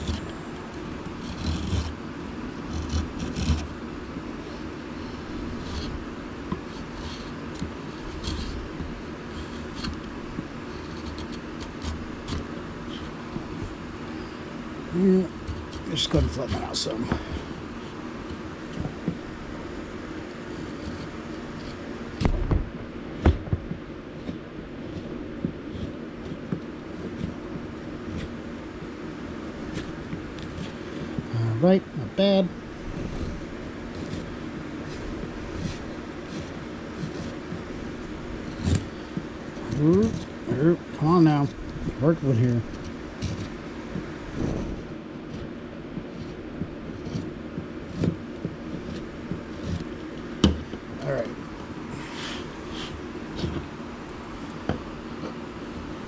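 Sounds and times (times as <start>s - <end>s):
chisel knocking and scraping wood: 0.0s - 2.0s, 2.6s - 3.8s, 4.4s - 14.3s, 15.2s - 19.6s, 20.2s - 28.4s, 29.2s - 31.3s, 32.8s - 56.0s
steady background hum: 0.0s - 56.0s.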